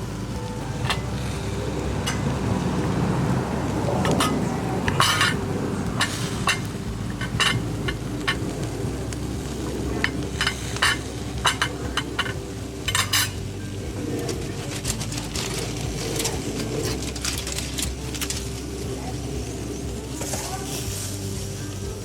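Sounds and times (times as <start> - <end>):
steady low hum: 0.0 - 22.0
metal utensils clinking on grill: 0.2 - 21.8.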